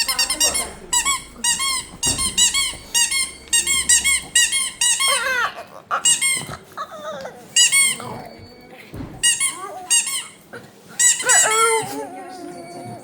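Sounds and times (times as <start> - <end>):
squeaky toy squeaking: 0.0 - 8.5, 9.2 - 13.0.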